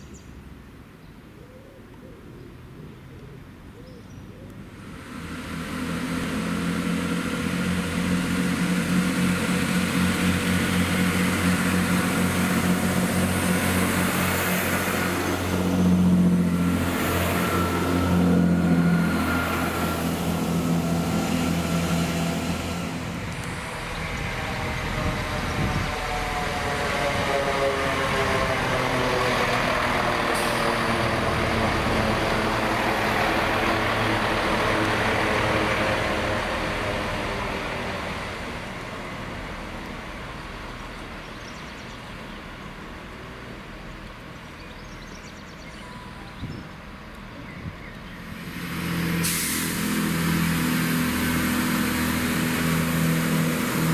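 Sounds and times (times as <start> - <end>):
diesel train passing: 4.2 - 53.9.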